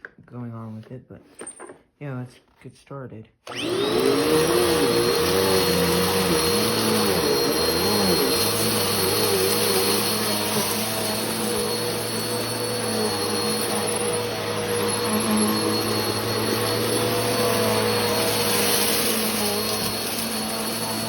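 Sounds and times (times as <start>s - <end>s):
vacuum cleaner running: 3.5s - 21.0s.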